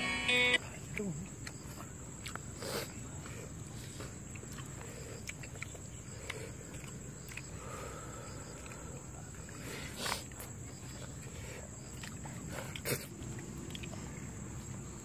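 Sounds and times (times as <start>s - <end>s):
outdoor background noise: 0.0s - 15.0s
people eating by hand: 0.4s - 15.0s.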